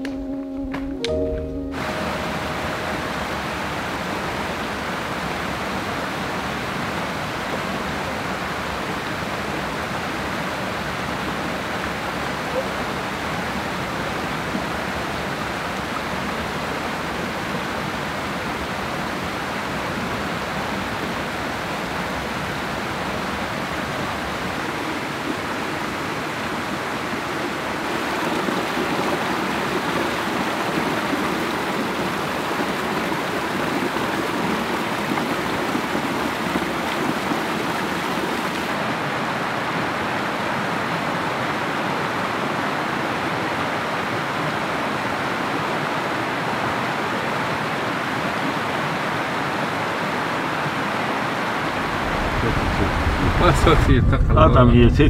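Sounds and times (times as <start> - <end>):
stream rushing over boulders: 1.8 - 54.2.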